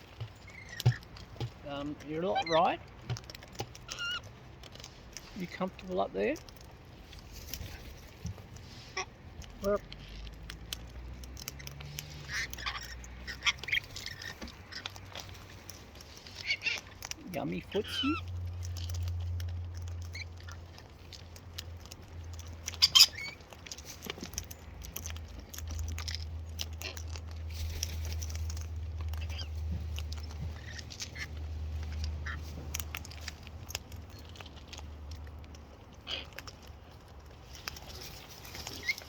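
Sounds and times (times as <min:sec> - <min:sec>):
beaks and claws clicking: 0:00.0 - 0:39.0
low steady hum: 0:00.0 - 0:39.0.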